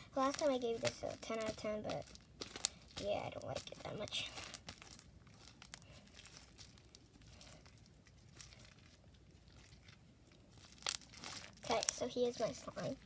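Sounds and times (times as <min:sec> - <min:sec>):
hands handling slime: 0:00.0 - 0:13.0.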